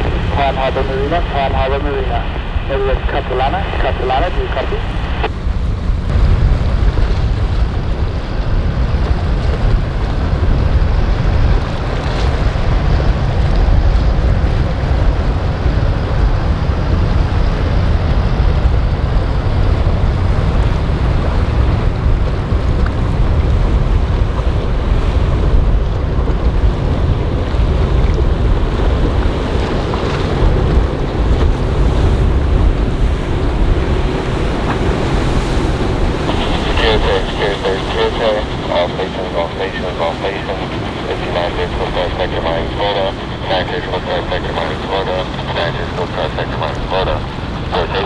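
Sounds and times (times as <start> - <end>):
waves and surf rushing: 0.0 - 48.0
wind buffeting microphone: 0.0 - 48.0.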